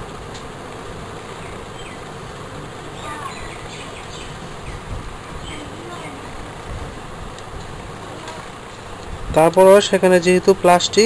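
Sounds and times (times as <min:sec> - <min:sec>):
steady buzzing hum: 0:00.0 - 0:11.0.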